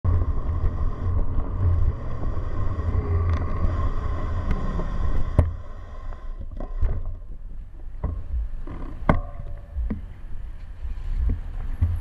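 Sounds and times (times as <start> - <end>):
road and wind rumble: 0.0 - 12.0
faint steady whine: 0.1 - 12.0.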